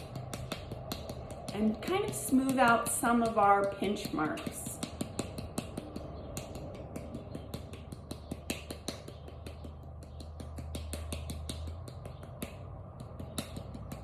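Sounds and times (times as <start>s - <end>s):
wooden spoon tapping clay: 0.0s - 14.0s.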